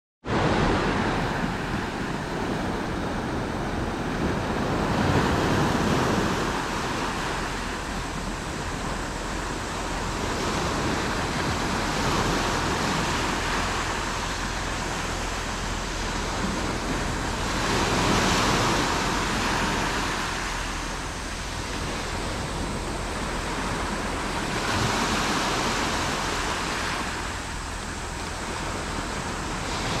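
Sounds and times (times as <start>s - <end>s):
waves breaking on shore: 0.2s - 30.0s.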